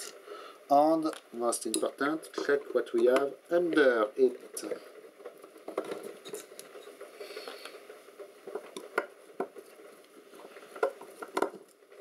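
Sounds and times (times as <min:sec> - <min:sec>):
metal rubbing and scraping: 0:01.5 - 0:12.0.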